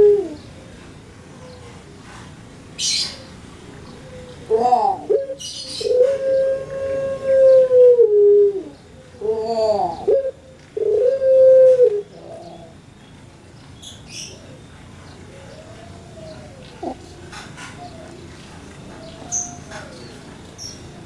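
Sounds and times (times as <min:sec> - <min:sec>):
dove cooing: 0:00.0 - 0:01.9, 0:02.8 - 0:12.8, 0:14.1 - 0:21.0.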